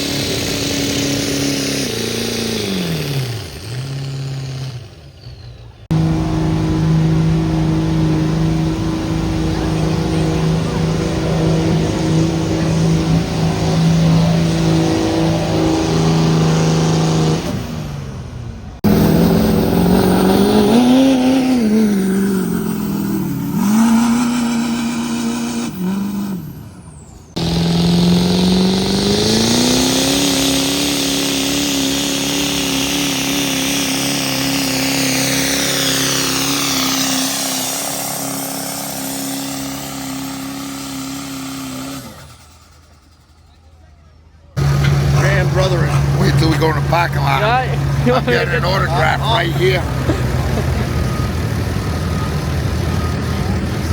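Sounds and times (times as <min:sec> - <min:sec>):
diesel truck engine under load: 0:00.0 - 0:53.9.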